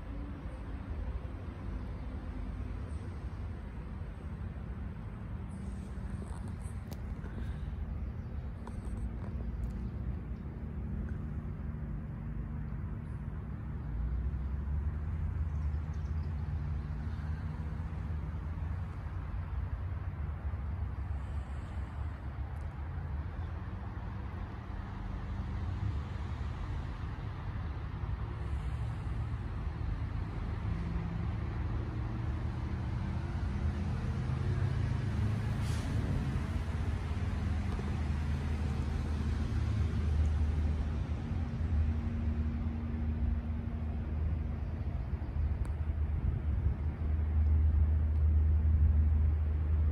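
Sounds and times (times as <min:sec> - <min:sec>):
low outdoor rumble: 0:00.0 - 0:49.9.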